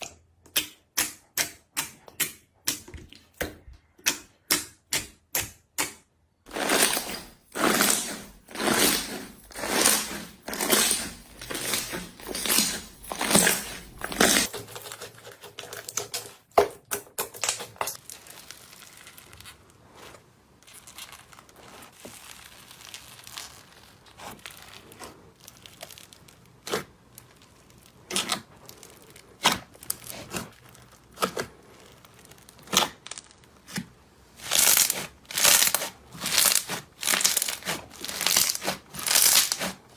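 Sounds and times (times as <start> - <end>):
slime squishing: 6.5 - 16.3, 17.4 - 39.9.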